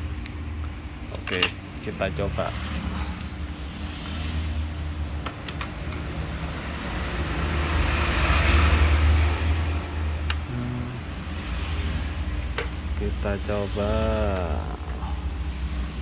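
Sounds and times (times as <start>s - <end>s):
passing motor vehicle rumble: 1.7s - 16.0s.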